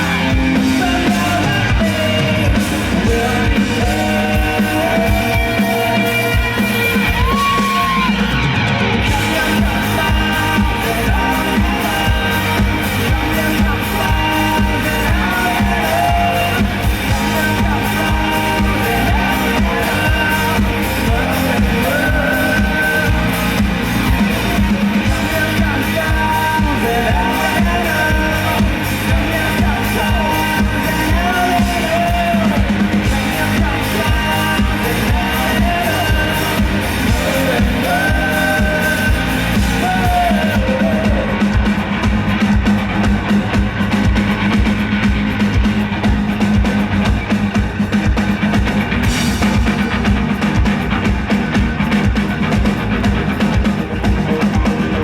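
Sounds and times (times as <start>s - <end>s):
man singing lead vocal: 0.0s - 44.7s
pop-rock band playing: 0.0s - 55.0s
steady drum beat: 0.0s - 55.0s.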